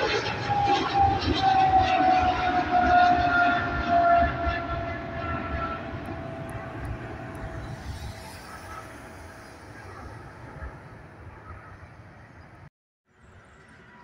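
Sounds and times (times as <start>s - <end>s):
jet engines roaring and whining: 0.0s - 12.7s.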